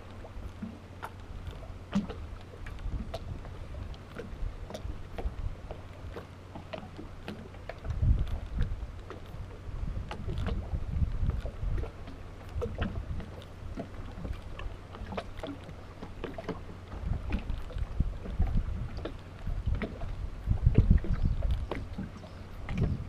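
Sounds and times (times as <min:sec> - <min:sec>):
light clicks and ticks: 0:00.0 - 0:20.1, 0:20.8 - 0:22.9
water lapping: 0:00.0 - 0:23.0.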